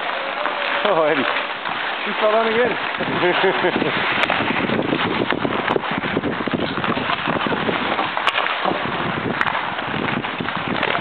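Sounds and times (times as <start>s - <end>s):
hockey sticks clicking on puck: 0.0s - 11.0s
skates scraping on ice: 0.0s - 11.0s.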